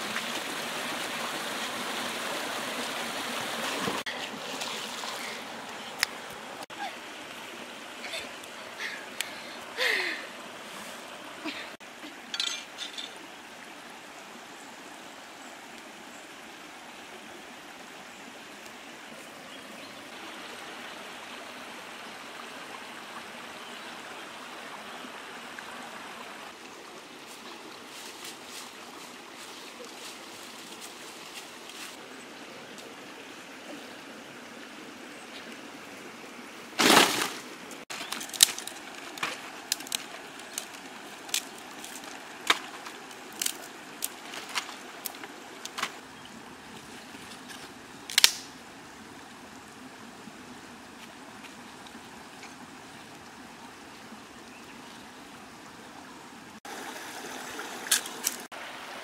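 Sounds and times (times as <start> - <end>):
creek water running over rocks: 0.0 - 59.0.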